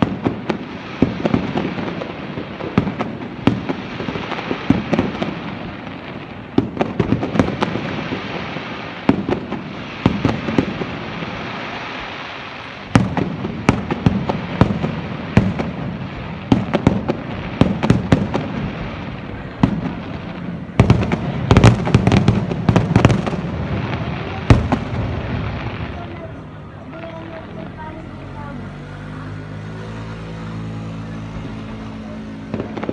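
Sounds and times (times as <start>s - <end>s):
firework crackling: 0.0s - 32.9s.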